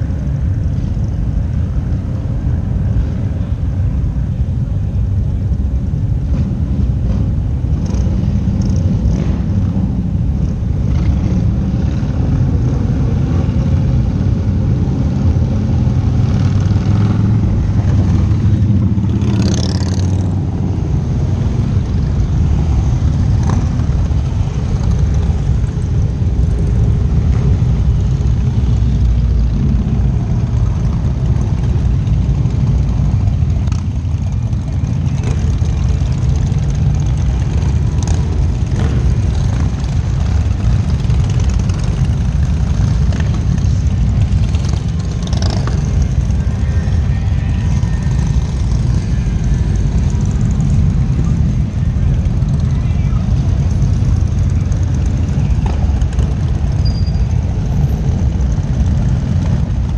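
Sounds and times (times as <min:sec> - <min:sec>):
motorcycle engines passing: 0:00.0 - 0:59.9.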